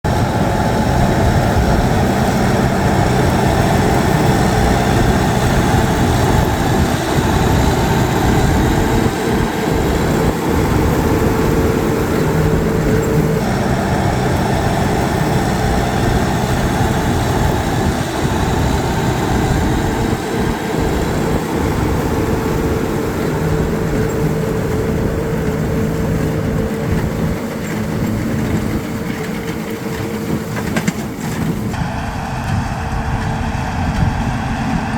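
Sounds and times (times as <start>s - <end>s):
steady drone: 0.0s - 30.0s, 31.7s - 34.9s
tractor diesel engine running: 0.0s - 34.9s.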